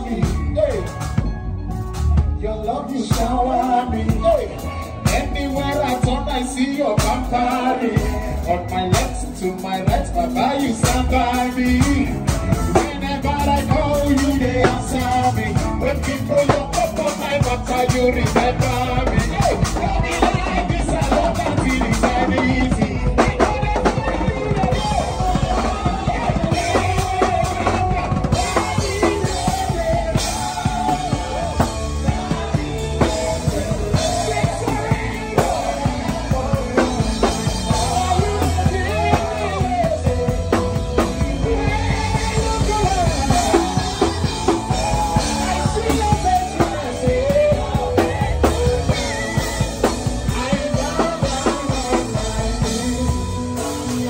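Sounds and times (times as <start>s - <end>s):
band music: 0.0s - 54.0s
bass drum: 0.0s - 54.0s.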